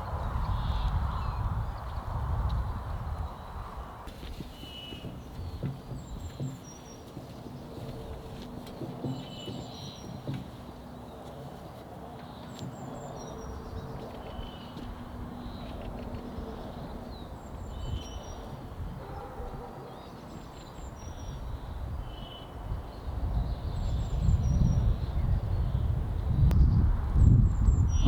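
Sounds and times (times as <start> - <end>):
songbird chirping: 0.0 - 26.8.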